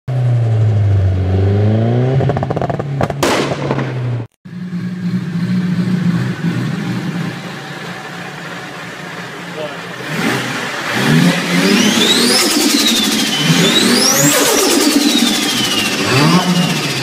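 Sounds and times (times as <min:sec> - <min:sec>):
car engine revving: 0:00.1 - 0:17.0.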